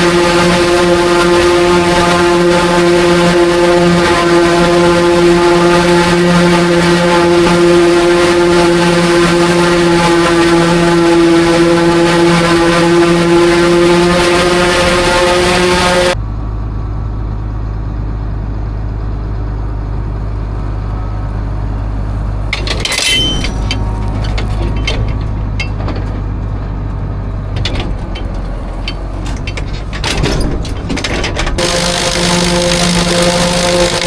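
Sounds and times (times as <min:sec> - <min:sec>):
forage harvester whining: 0:00.0 - 0:16.2, 0:18.0 - 0:34.0
deep engine drone: 0:00.0 - 0:34.0.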